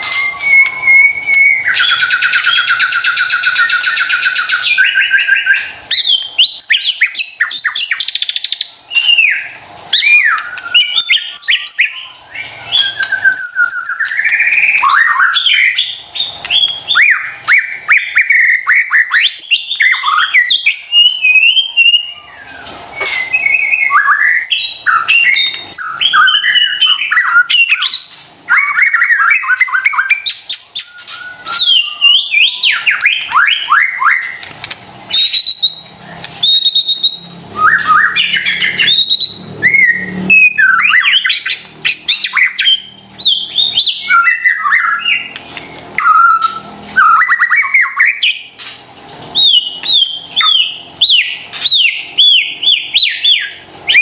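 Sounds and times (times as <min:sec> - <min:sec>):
bird singing loud whistles: 0:00.0 - 0:34.4, 0:35.1 - 0:45.3, 0:46.0 - 0:48.5, 0:49.4 - 0:54.0.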